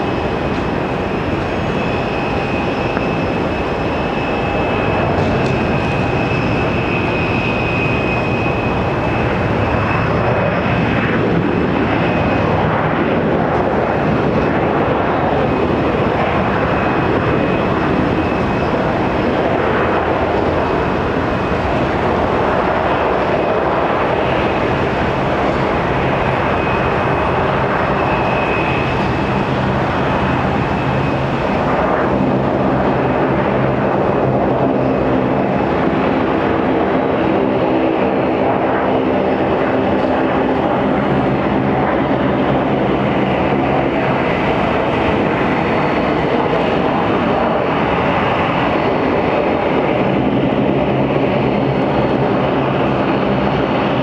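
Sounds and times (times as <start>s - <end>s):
propeller hum: 0.0s - 54.0s
turboprop engines droning: 0.0s - 54.0s.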